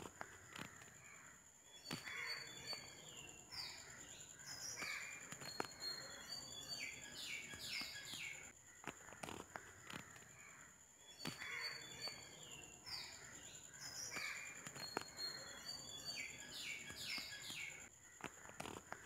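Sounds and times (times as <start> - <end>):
falling bird calls: 0.0 - 19.0.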